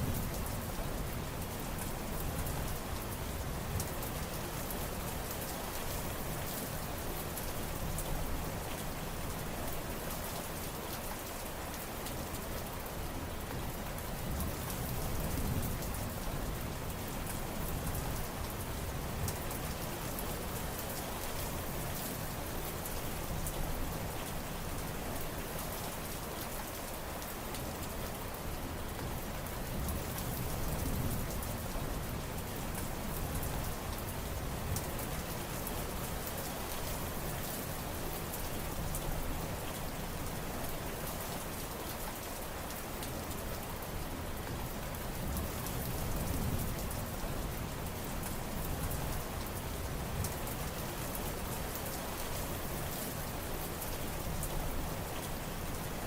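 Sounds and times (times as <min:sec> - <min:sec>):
raindrops ticking on surfaces: 0:00.0 - 0:56.0
steady rain falling: 0:00.0 - 0:56.0.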